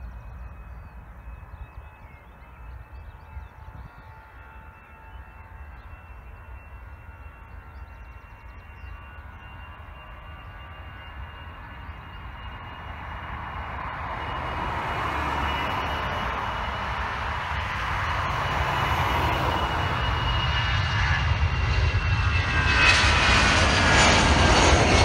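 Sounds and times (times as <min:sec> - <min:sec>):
jet airliner roar: 0:00.0 - 0:25.0.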